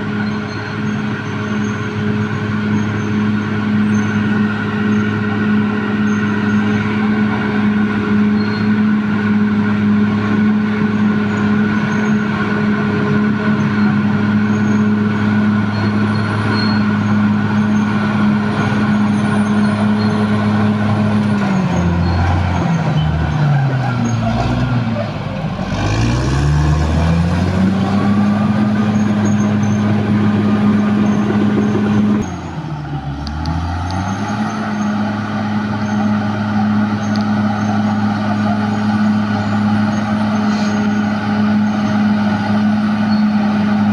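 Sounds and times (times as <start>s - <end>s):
bulldozer diesel engine revving: 2.3s - 43.9s.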